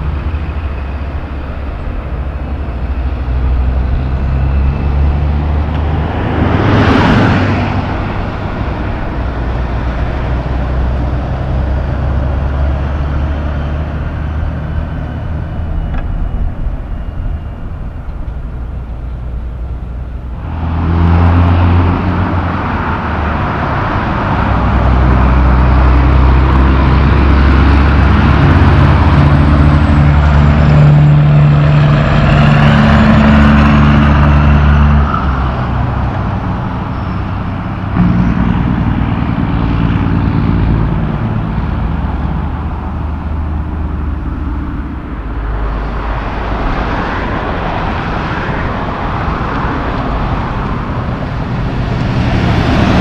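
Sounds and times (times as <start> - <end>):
passing car traffic: 0.0 - 53.0
truck diesel engine driving by: 0.0 - 53.0.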